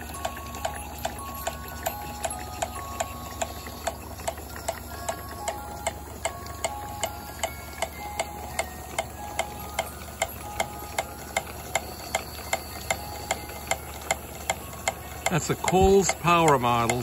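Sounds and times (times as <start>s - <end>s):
model steam pump clicking: 0.0s - 17.0s.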